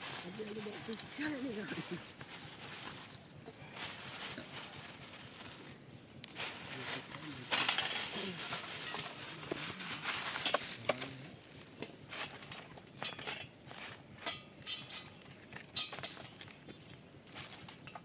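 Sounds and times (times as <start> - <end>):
plastic bag rustling: 0.0 - 18.0.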